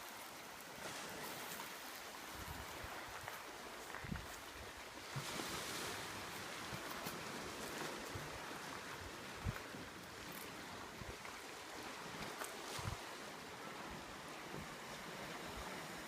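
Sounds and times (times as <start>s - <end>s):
waves washing on rocky shore: 0.0s - 16.0s.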